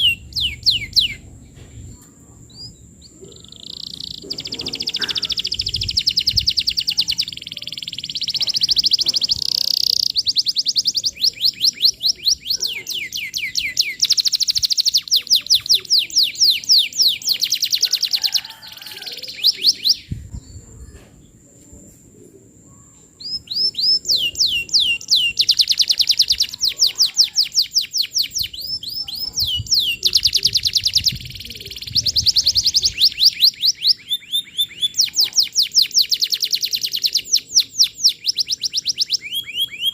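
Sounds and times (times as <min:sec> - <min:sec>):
canary singing fast trills: 0:00.0 - 0:01.5, 0:02.4 - 0:20.9, 0:22.7 - 0:39.9.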